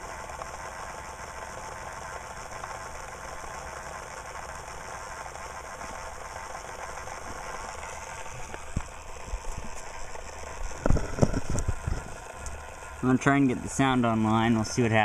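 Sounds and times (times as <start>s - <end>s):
electric motor mechanical whir: 0.0s - 15.0s.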